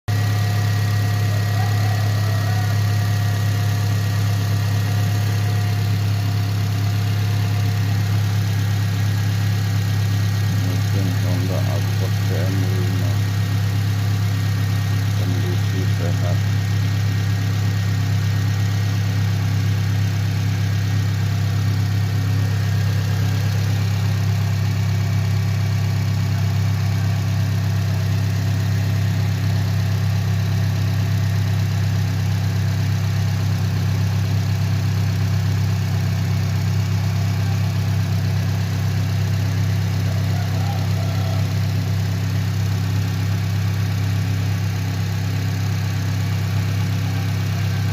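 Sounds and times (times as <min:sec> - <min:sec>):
car engine idling: 0:00.1 - 0:47.9.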